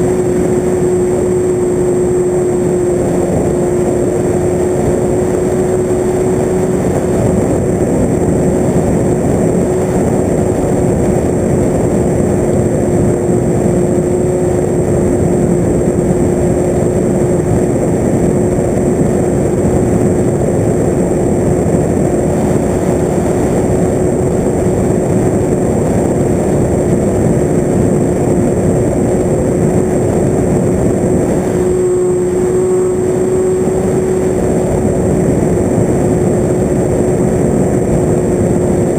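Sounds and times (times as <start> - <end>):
aircraft motor and propeller hum: 0.0 - 38.9
wind rush: 0.0 - 38.9.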